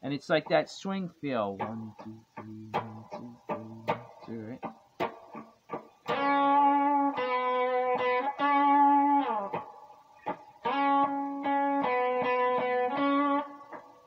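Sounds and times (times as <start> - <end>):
electric guitar blues phrase: 0.8 - 14.0.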